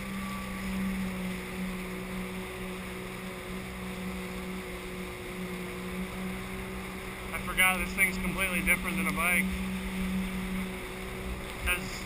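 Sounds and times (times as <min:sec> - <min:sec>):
water rushing: 0:00.0 - 0:12.0
watercraft engine droning: 0:00.0 - 0:12.0.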